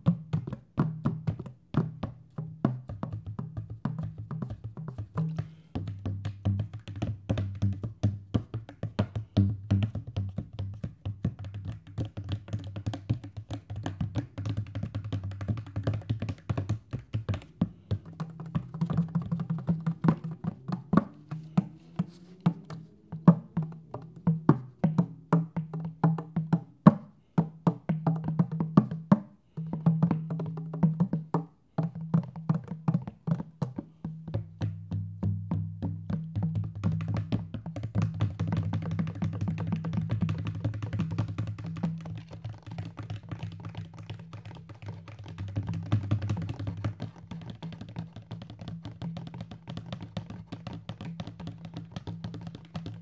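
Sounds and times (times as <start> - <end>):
hand drum played fast: 0.0 - 53.0.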